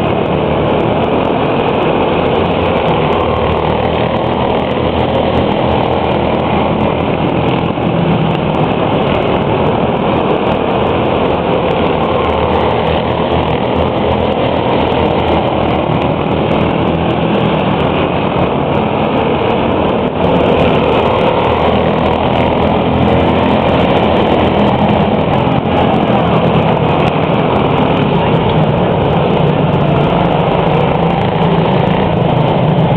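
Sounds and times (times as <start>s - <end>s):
small race car engines droning: 0.0s - 32.9s.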